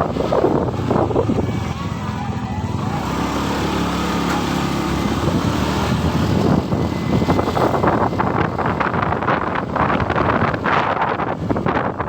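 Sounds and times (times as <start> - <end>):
motorcycle engine humming: 0.0 - 12.0
wind buffeting microphone: 0.0 - 12.0.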